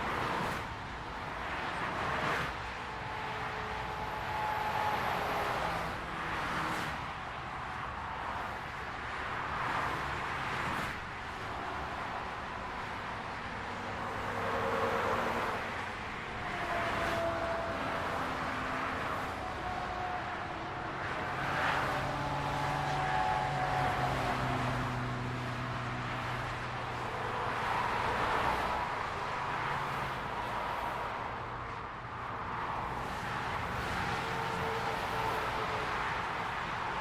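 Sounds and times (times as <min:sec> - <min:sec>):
highway traffic noise: 0:00.0 - 0:37.0
vehicles passing: 0:00.0 - 0:37.0.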